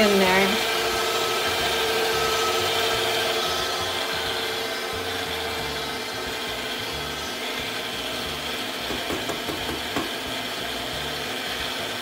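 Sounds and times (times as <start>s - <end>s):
stand mixer kneading dough: 0.0s - 12.0s.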